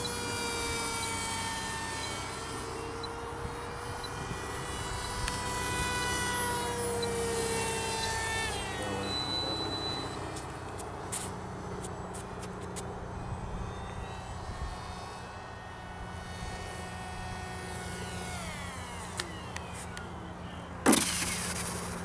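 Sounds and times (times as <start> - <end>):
model plane propeller droning: 0.0 - 22.0.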